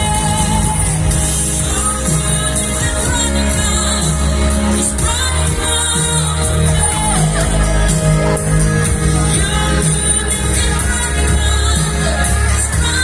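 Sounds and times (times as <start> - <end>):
amplified music with strong bass: 0.0 - 13.0
person singing: 0.0 - 13.0.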